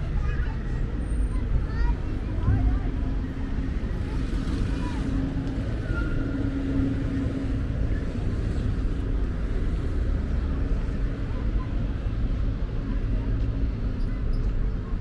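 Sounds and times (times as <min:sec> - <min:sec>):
rumble of passing cars: 0:00.0 - 0:15.0.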